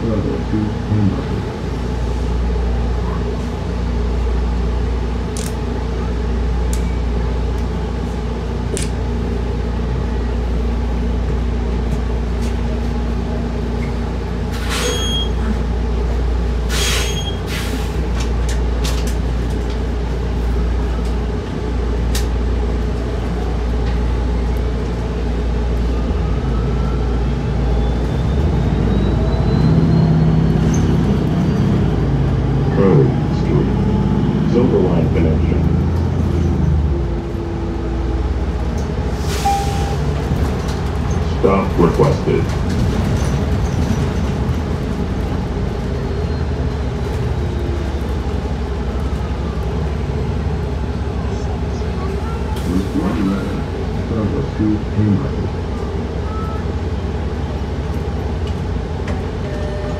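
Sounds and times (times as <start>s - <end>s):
bus drivetrain and road rumble: 0.0s - 59.9s.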